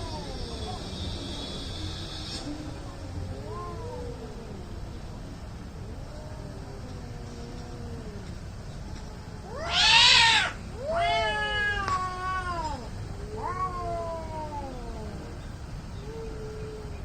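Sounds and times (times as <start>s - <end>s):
cats yowling: 0.0s - 0.8s, 2.5s - 15.4s.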